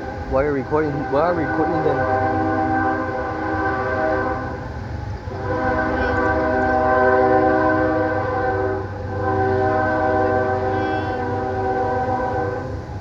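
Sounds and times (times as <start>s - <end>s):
locomotive horn chord: 0.0s - 13.0s
passing train rumble: 0.0s - 13.0s.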